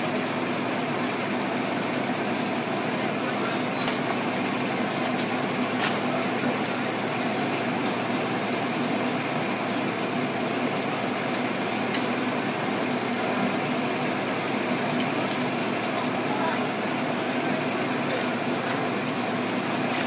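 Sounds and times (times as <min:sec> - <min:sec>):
fire engines humming: 0:00.0 - 0:20.0.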